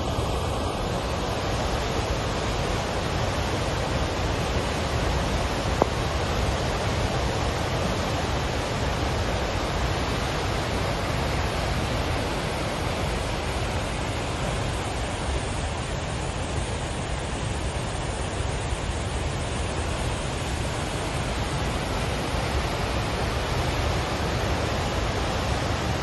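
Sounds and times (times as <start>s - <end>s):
river rushing over waterfall: 0.0s - 26.0s.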